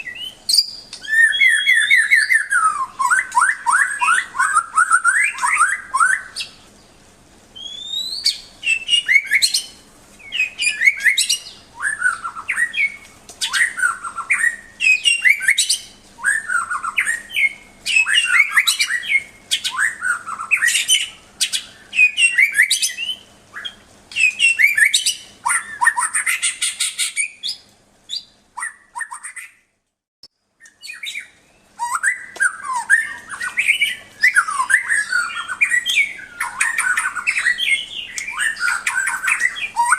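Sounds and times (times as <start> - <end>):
songbird singing sweeping notes: 0.0 - 7.0, 7.6 - 29.5, 30.6 - 39.9.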